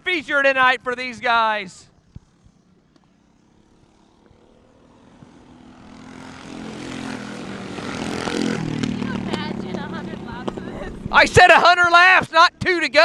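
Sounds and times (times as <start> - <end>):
mini bike engines buzzing: 0.0 - 11.9.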